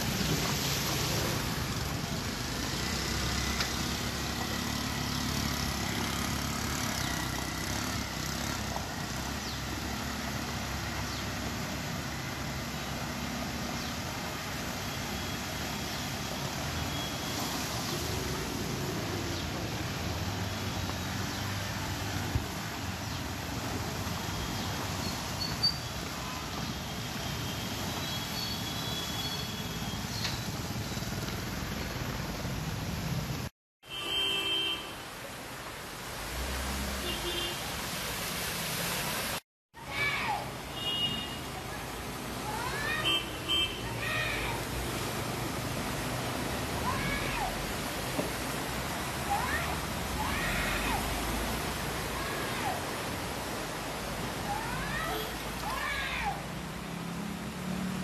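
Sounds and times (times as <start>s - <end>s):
car and motorbike engines: 0.0s - 33.6s, 35.0s - 58.0s
water wash and road noise: 0.0s - 58.0s.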